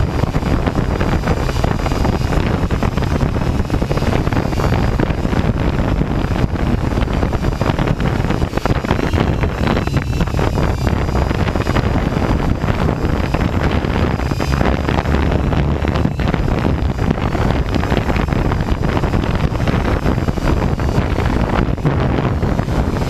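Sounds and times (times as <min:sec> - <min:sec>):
drone motors whining: 0:00.0 - 0:23.0
wind buffeting microphone: 0:00.0 - 0:23.0.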